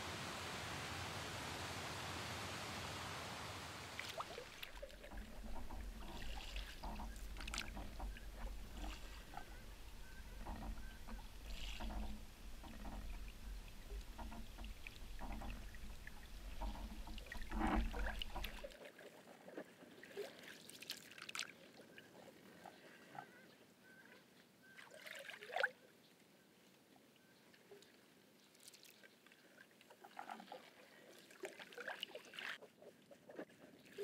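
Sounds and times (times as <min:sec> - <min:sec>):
paddle splashing water: 0:00.0 - 0:23.0, 0:24.7 - 0:25.7, 0:28.6 - 0:34.0
water running along hull: 0:00.0 - 0:24.0, 0:28.6 - 0:34.0.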